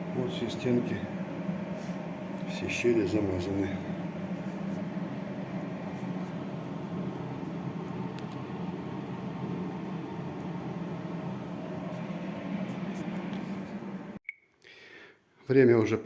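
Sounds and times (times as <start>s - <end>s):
mechanical hum with hiss: 0.0s - 14.2s.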